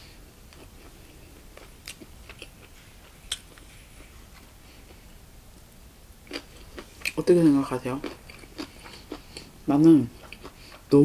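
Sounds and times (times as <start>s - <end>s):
soft chewing: 0.4s - 11.0s.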